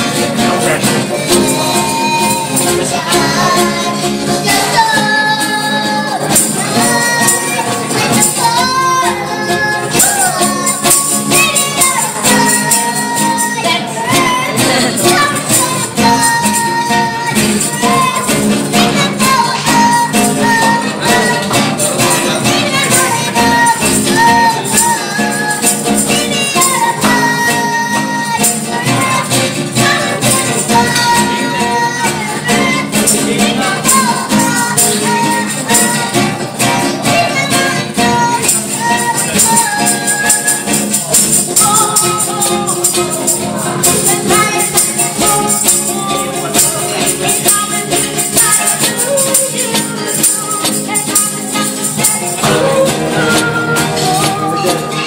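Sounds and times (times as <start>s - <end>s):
acoustic guitar strumming: 0.0s - 55.0s
girl singing: 0.0s - 55.0s
jingling shaker: 0.0s - 55.0s.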